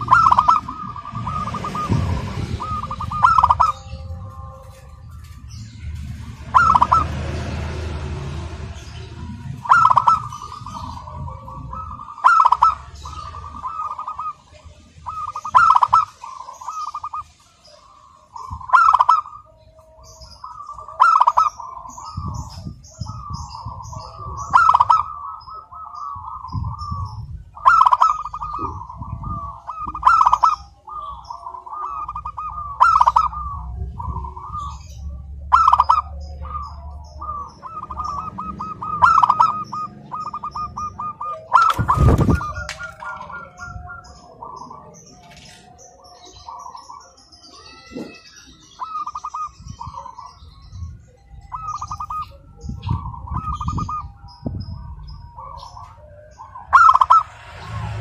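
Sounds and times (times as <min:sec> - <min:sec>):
dove cooing: 0:00.0 - 0:05.6, 0:06.2 - 0:08.1, 0:09.2 - 0:58.0.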